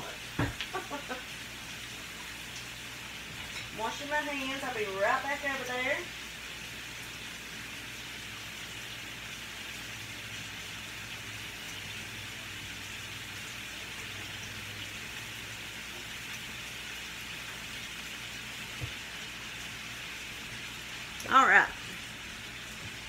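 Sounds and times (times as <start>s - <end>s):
meat sizzling in a skillet: 0.0s - 23.0s.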